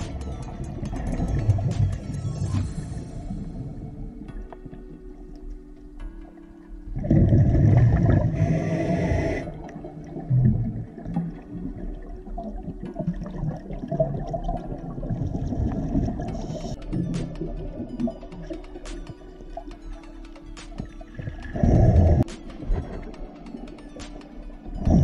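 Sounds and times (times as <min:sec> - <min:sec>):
underwater bubbling: 0:00.0 - 0:25.0.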